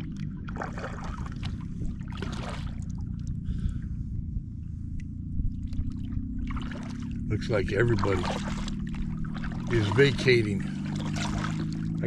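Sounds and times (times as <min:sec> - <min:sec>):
steady low rumble: 0:00.0 - 0:12.0
water splashing around kayak: 0:00.0 - 0:12.0.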